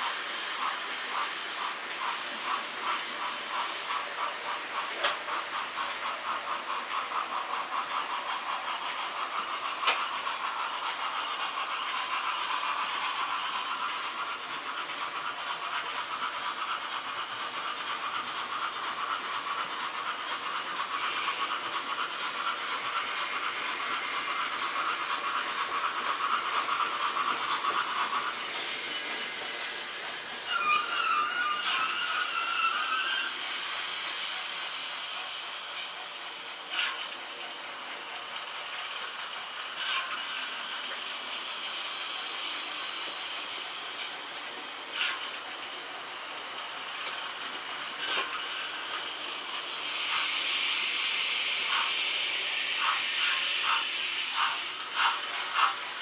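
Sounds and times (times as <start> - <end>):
model train motors whirring: 0.0 - 56.0.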